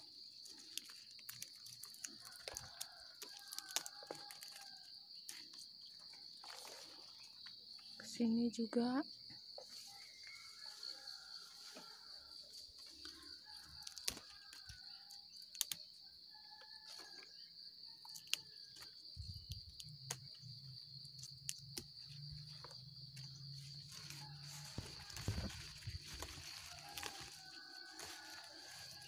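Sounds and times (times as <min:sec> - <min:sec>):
hand rustling leaves and stems: 0:00.0 - 0:07.6, 0:09.6 - 0:15.8, 0:18.1 - 0:29.0
insects chirring: 0:00.0 - 0:29.0.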